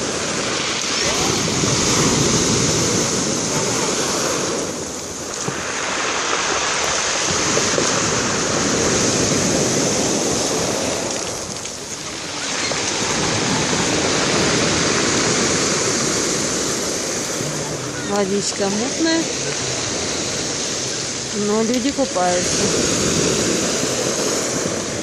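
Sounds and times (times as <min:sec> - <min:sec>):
surf washing on shore: 0:00.0 - 0:25.0.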